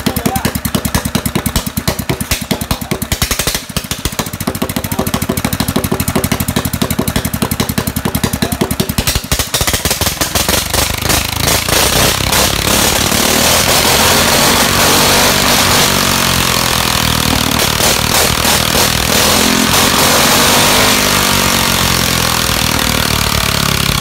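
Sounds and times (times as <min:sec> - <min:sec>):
single-cylinder engine running: 0:00.0 - 0:24.0.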